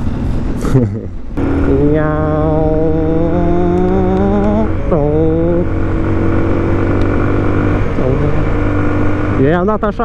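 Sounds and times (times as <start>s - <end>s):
motorcycle engine accelerating: 1.4s - 10.0s.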